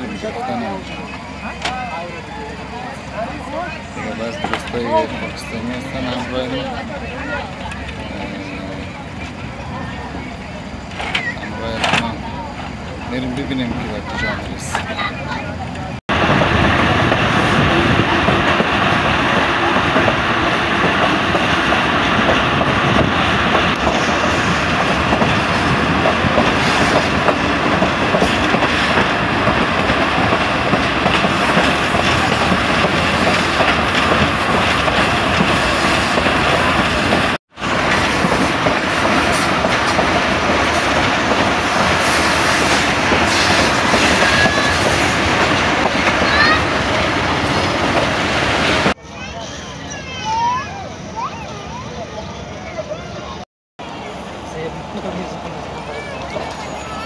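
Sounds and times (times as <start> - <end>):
train rumbling and rattling: 0.0 - 57.0.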